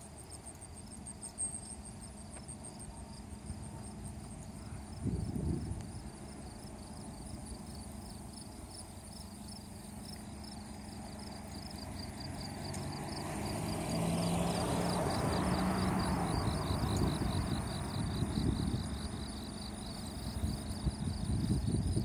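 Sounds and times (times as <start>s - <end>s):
insects chirping: 0.0s - 22.0s
vehicle approaching on road: 0.1s - 22.0s.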